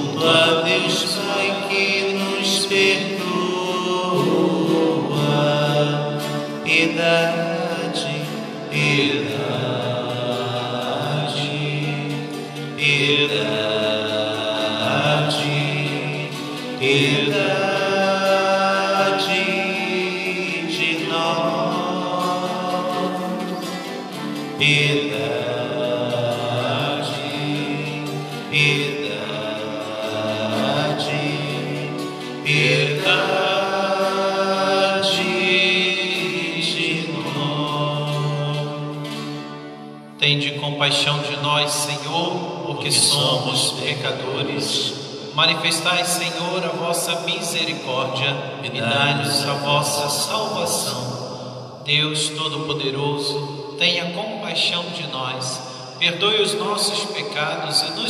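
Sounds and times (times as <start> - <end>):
person singing: 0.0 - 58.0
sustained accompaniment: 0.0 - 58.0.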